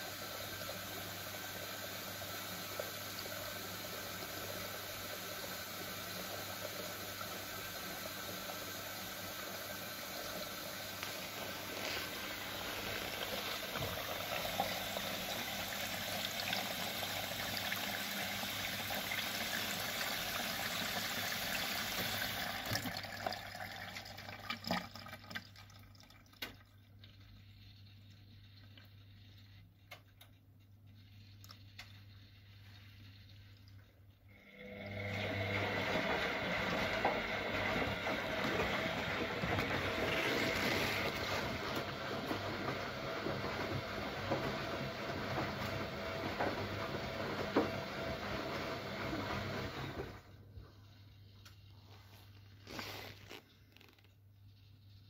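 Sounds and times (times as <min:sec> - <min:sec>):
water rushing into washing machine: 0:00.0 - 0:30.2, 0:30.8 - 0:51.4.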